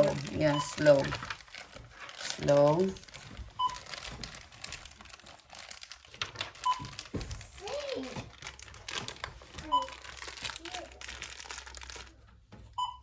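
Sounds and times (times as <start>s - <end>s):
plastic packaging crinkling: 0.0s - 12.4s
plastic parts clicking and knocking: 1.0s - 12.7s.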